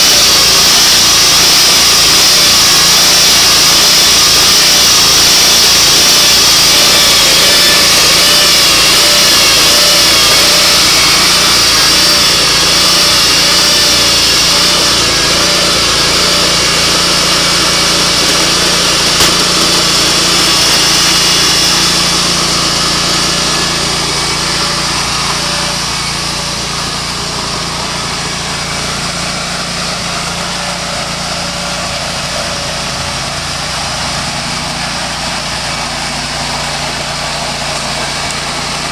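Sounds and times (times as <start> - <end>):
saw cutting wood: 0.0 - 38.9
sawmill engine running: 0.0 - 38.9.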